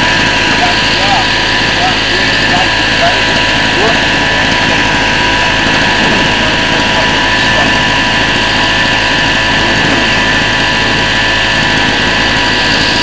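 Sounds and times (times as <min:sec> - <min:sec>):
petrol generator running: 0:00.0 - 0:13.0.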